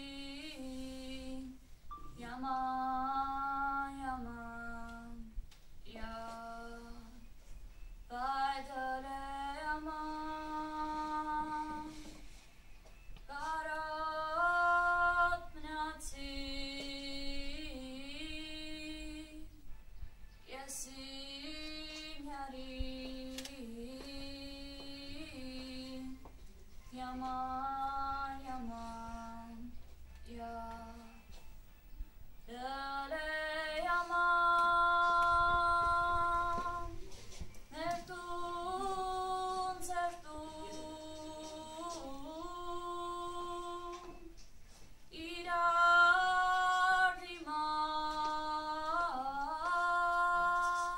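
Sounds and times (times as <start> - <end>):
girl singing: 0.0 - 7.4, 8.1 - 12.3, 13.3 - 19.7, 20.5 - 31.4, 32.4 - 44.5, 45.1 - 50.9.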